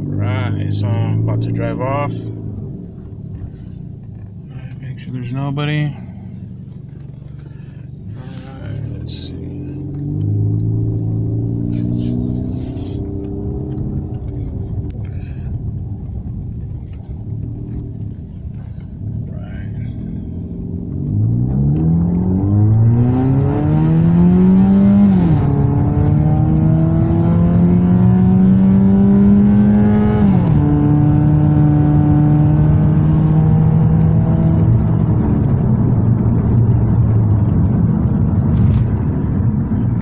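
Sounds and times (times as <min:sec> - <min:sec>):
car engine accelerating through gears: 0:00.0 - 0:40.0.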